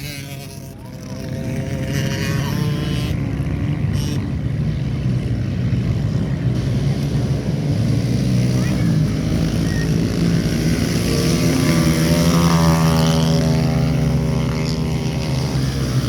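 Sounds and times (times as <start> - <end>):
pit bike engines running hard: 0.0 - 16.0.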